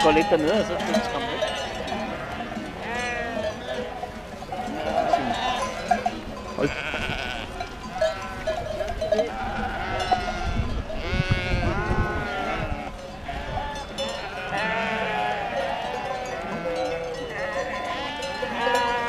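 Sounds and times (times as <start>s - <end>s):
sheep bleating: 0.0s - 19.0s.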